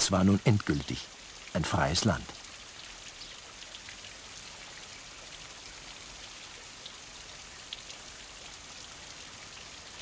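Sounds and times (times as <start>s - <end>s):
rain-like hiss: 0.0s - 10.0s.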